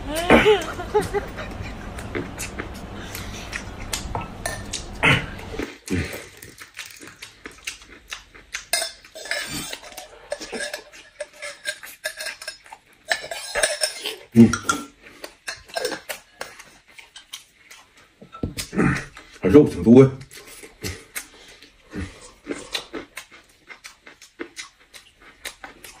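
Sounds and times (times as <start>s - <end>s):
chewing and slurping: 0.1s - 19.4s, 20.2s - 26.0s.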